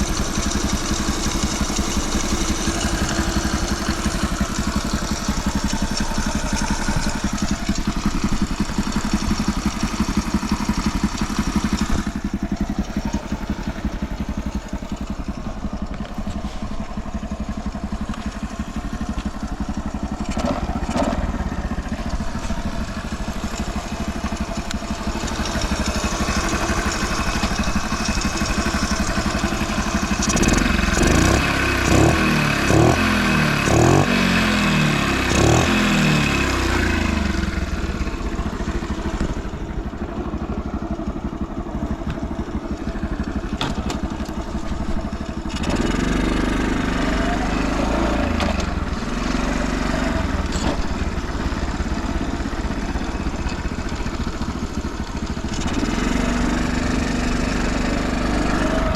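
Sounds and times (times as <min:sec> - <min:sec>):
motorcycle engine idling and revving: 0:00.0 - 0:58.9.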